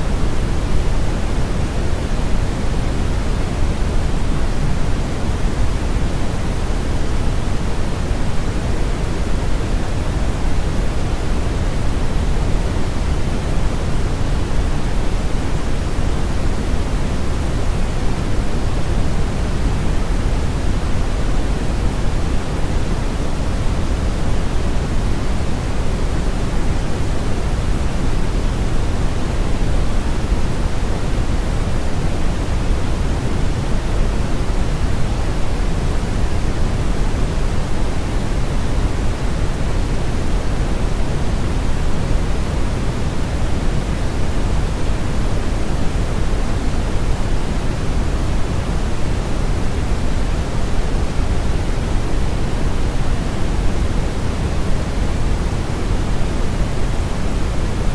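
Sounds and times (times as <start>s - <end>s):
brown noise rumble: 0.0s - 57.9s.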